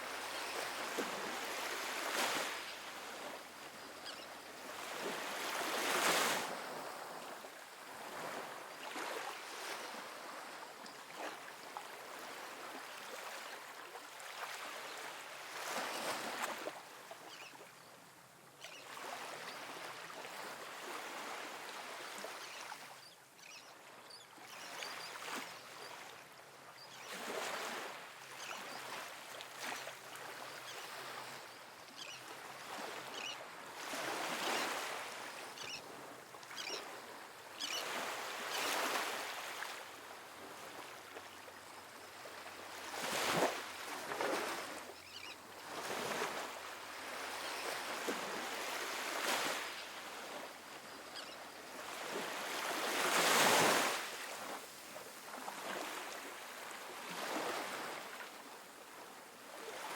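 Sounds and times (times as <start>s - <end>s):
small waves breaking on sand: 0.0s - 17.7s, 18.6s - 23.1s, 23.7s - 59.9s.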